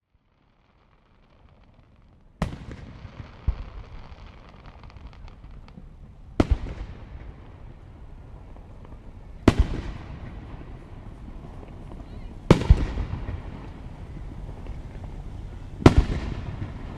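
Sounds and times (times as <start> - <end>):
faint fireworks crackling: 0.0 - 16.9
fireworks bangs with echo: 0.6 - 16.9.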